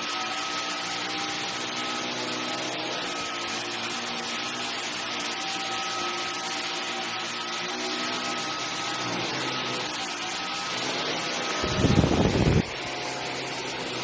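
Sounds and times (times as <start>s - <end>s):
stick vacuum running: 0.0s - 14.0s.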